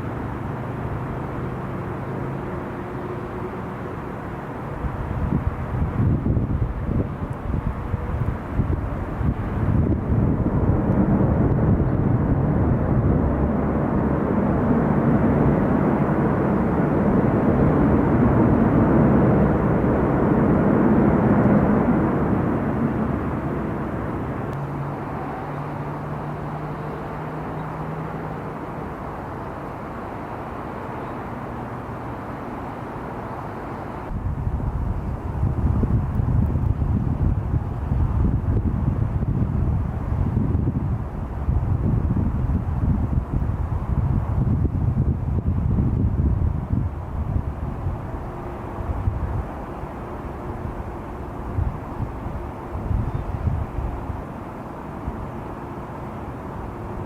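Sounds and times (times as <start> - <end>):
jet airliner engine noise: 0.0 - 57.0.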